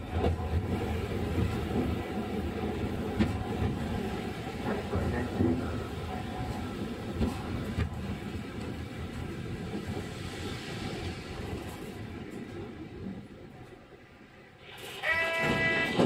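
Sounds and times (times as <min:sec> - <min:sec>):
tram running rumble: 0:00.0 - 0:16.0.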